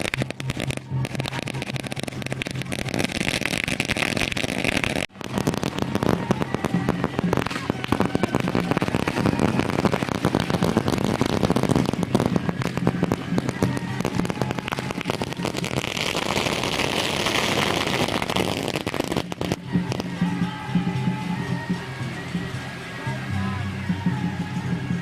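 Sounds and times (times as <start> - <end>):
firecrackers popping: 0.0 - 20.4
music with low tones: 0.0 - 25.0.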